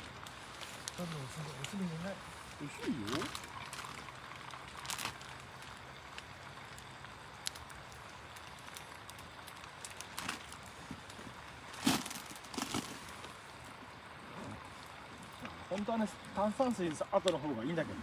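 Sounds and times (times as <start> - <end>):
faint steady background noise: 0.0 - 18.0.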